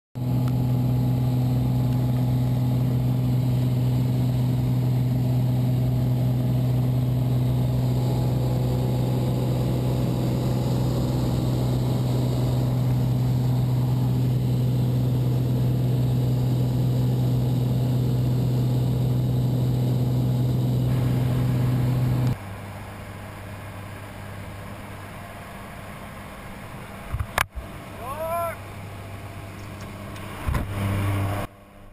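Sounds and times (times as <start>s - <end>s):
airplane engine and propeller drone: 0.2s - 31.9s.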